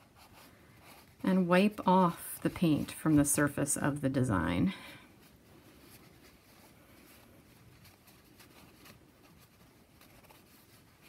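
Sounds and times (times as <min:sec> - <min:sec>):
paper rag rustling and rubbing: 0:00.0 - 0:04.6, 0:05.2 - 0:11.0.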